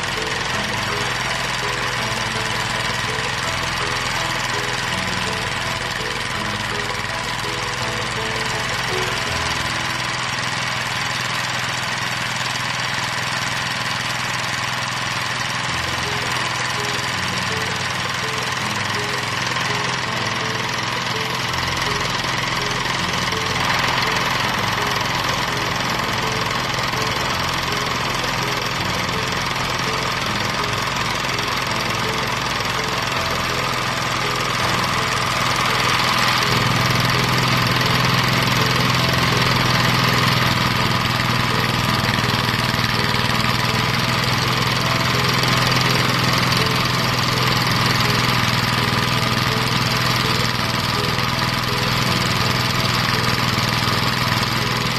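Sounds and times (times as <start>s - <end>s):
rice thresher engine running: 0.0s - 54.9s.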